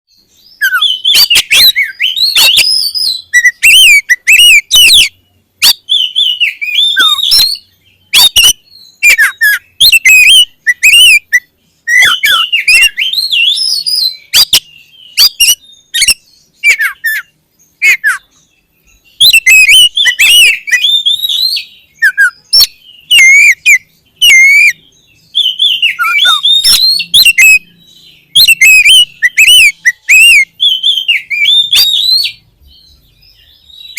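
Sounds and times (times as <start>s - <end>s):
songbird singing loudly: 0.1s - 33.9s.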